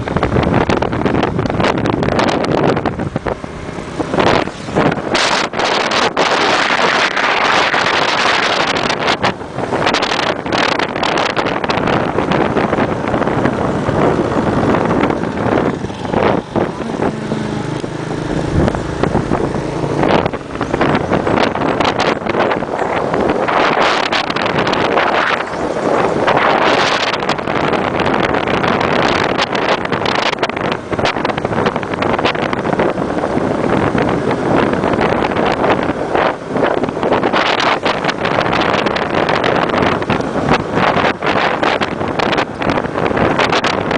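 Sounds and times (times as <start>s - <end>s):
motorbike engine hum: 0.0s - 43.9s
wind buffeting microphone: 0.0s - 43.9s.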